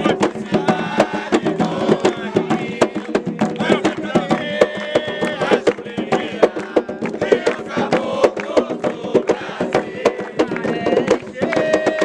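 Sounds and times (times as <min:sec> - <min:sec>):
drums in a quick dense rhythm: 0:00.0 - 0:12.0
voices singing: 0:00.0 - 0:12.0.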